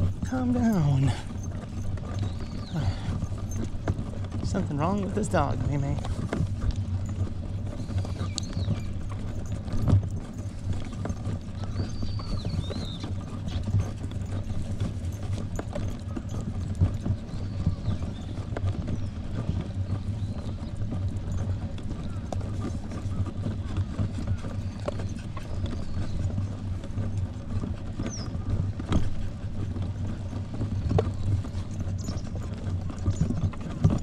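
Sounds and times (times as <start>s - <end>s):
footsteps on paved path: 0.0s - 34.0s.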